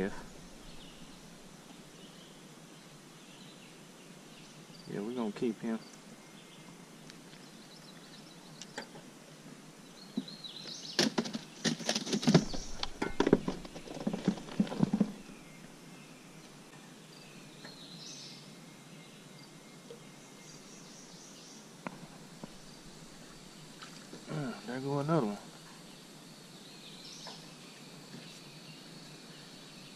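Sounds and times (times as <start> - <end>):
outdoor background: 0.0 - 29.9.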